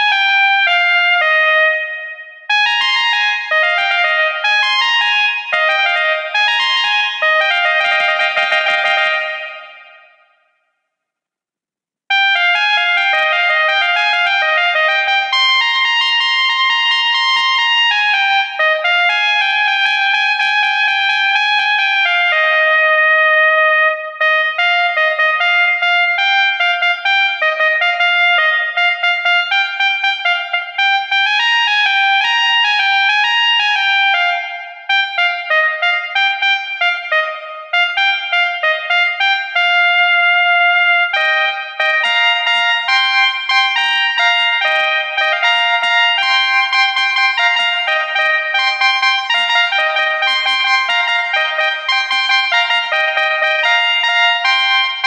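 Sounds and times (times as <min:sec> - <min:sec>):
multi-tone air horns playing melody: 0:00.0 - 0:10.2, 0:12.1 - 0:55.0.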